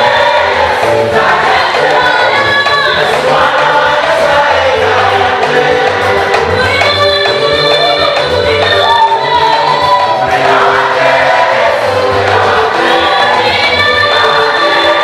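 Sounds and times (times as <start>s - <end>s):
choir singing with band: 0.0s - 15.0s
steady bass line: 0.0s - 15.0s.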